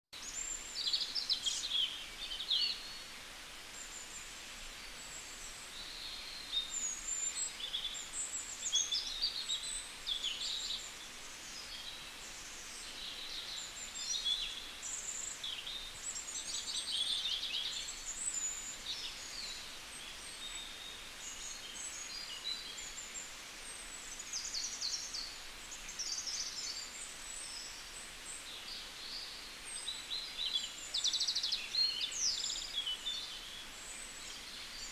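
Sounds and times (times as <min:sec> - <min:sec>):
outdoor background hiss: 0:00.1 - 0:34.9
songbirds chirping and trilling: 0:00.2 - 0:34.9.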